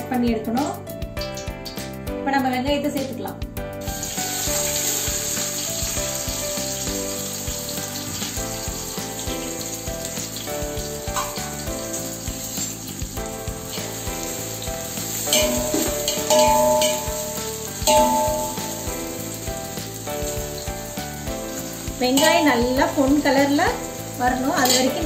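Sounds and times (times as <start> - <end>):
onions sizzling in hot oil: 0.6 - 2.1, 3.8 - 25.0.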